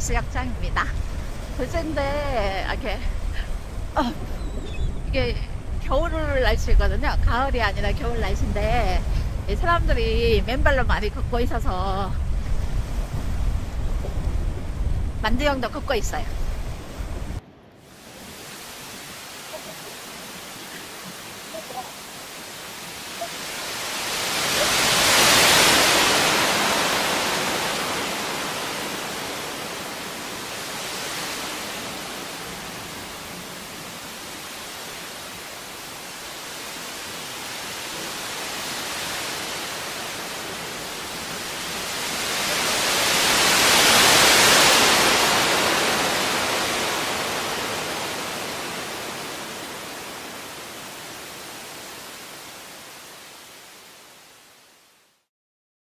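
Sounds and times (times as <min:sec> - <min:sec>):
small waves washing up beach: 0:00.0 - 0:54.8.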